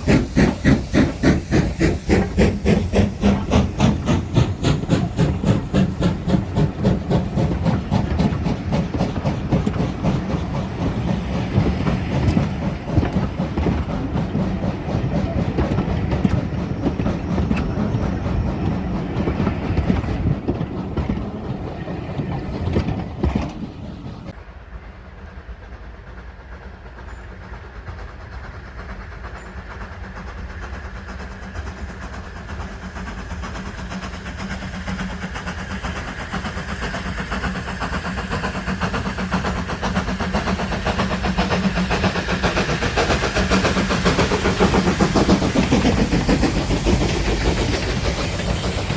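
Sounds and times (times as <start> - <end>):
wheels clattering on rails: 0.0 - 24.4, 26.2 - 48.9
steam train exhaust beats: 0.0 - 48.9.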